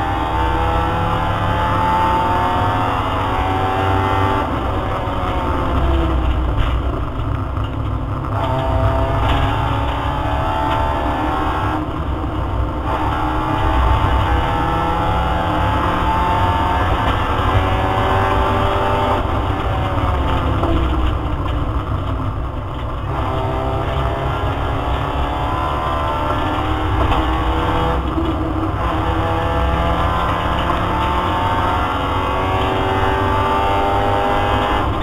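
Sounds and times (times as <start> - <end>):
car engine accelerating hard: 0.0 - 35.0
low road rumble: 0.0 - 35.0.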